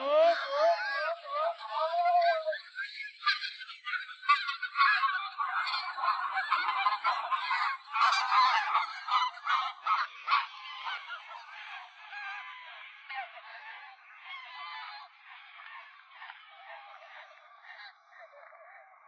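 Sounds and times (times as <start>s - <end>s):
geese honking: 0.0s - 16.4s.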